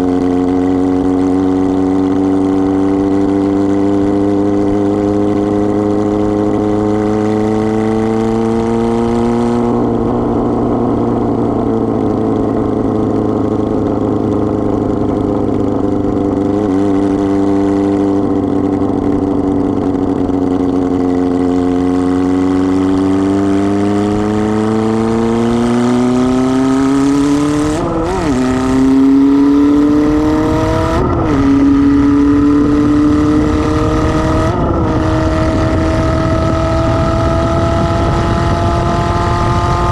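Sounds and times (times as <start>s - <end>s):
motorcycle engine running unmuffled: 0.0s - 39.9s.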